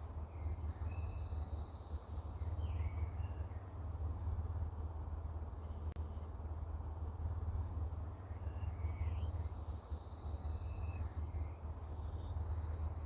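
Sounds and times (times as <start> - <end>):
small birds chirping and warbling: 0.0 - 5.9, 8.1 - 13.0.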